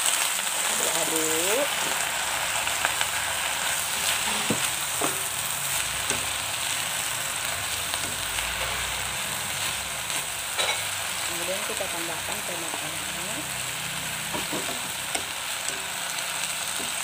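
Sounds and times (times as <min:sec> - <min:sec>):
spinach sizzling in hot oil: 0:00.0 - 0:17.0.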